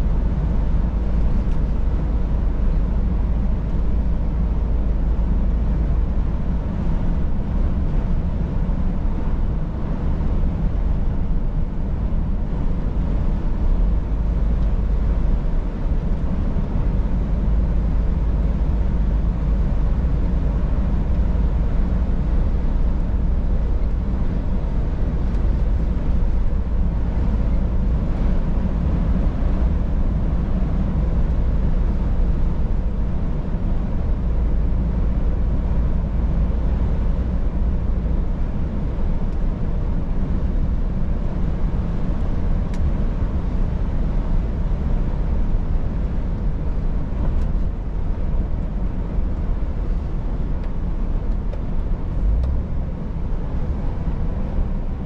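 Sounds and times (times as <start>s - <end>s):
truck diesel engine rumbling: 0.0s - 55.0s.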